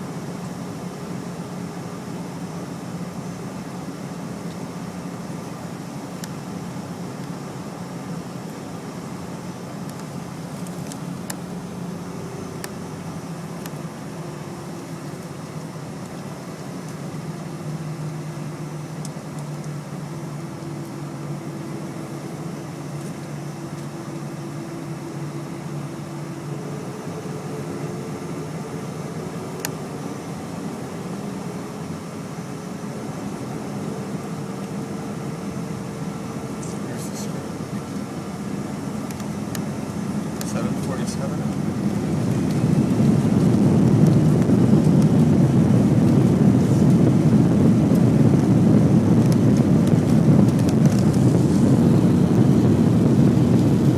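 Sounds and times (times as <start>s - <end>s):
aircraft cabin engine hum: 0.0s - 53.9s.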